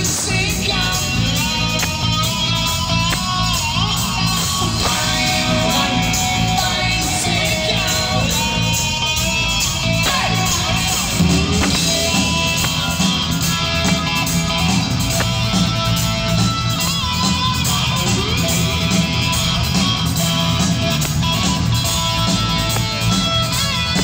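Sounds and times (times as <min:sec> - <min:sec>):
electric guitar: 0:00.0 - 0:24.0
live rock band playing: 0:00.0 - 0:24.0.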